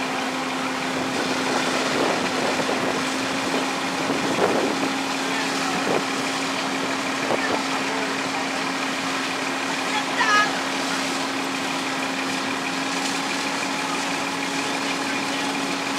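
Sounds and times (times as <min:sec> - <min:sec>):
fire engine pump running: 0:00.0 - 0:15.9.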